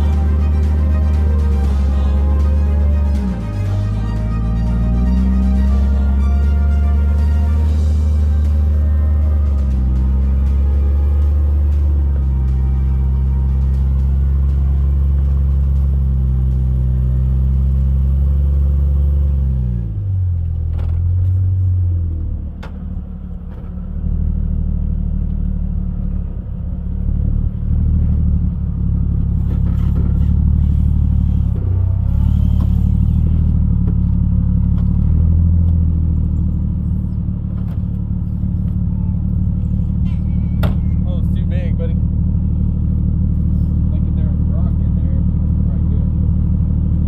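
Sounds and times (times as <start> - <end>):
car engine revving at low speed: 0.0 - 47.0.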